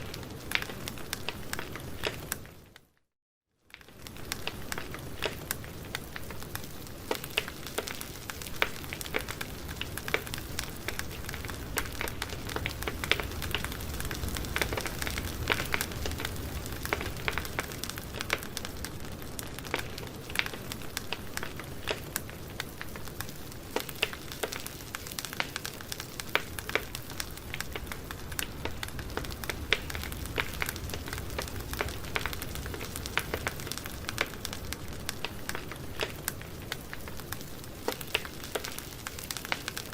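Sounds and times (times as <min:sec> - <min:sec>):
low rumble of flame: 0:00.0 - 0:02.6, 0:03.8 - 0:39.9
wood crackling and popping: 0:00.0 - 0:03.0, 0:03.6 - 0:39.9.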